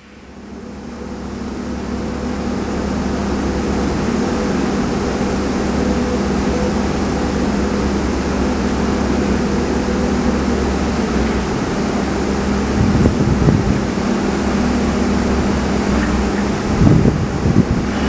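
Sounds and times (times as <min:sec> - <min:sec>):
machinery drone: 0:00.0 - 0:18.0.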